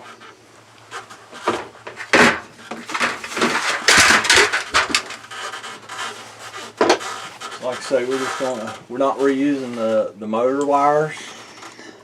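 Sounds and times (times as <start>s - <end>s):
hands scraping wires and plastic: 0.0s - 10.0s.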